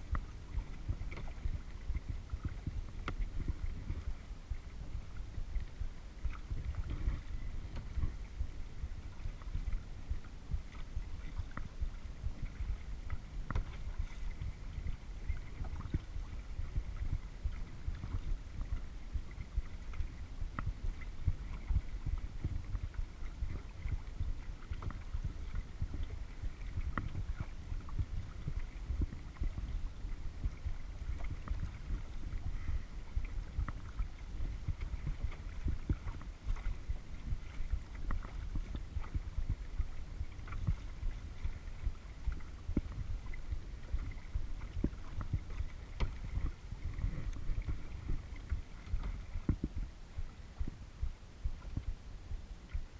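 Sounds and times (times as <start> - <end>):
water drips and splashes: 0.0 - 50.8
low rumble: 0.0 - 52.9
water lapping against hull: 0.0 - 52.9.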